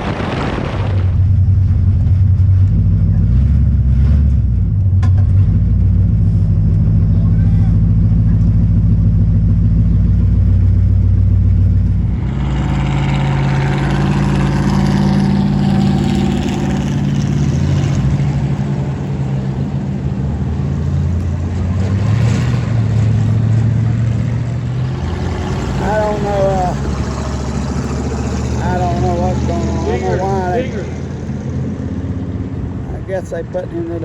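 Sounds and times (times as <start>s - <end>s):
race car engine running: 0.0s - 34.0s.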